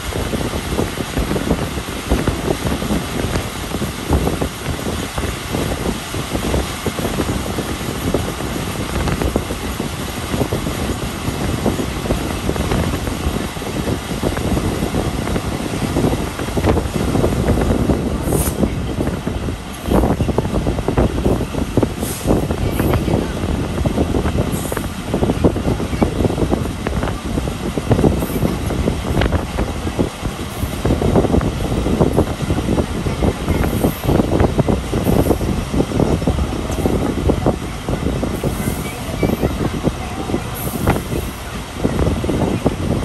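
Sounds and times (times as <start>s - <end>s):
train wheels rumbling and clattering: 0.0s - 43.0s
wind buffeting microphone: 0.0s - 43.0s.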